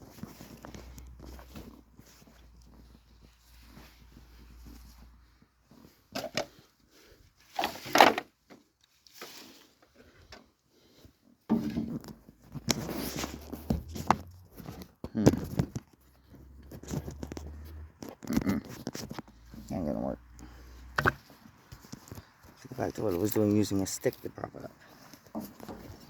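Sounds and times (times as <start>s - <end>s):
objects being handled: 0.0s - 26.0s.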